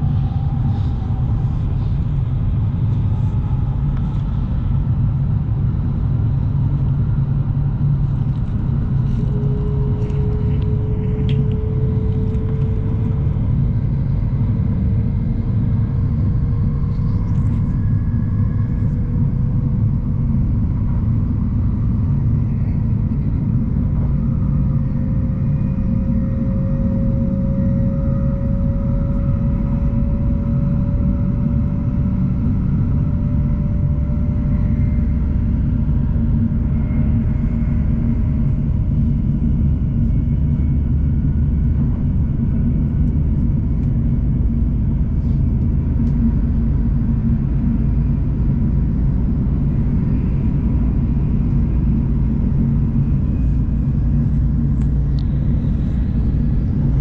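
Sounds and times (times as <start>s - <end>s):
faint rising whine: 0.0s - 57.0s
train rumble on board: 0.0s - 57.0s.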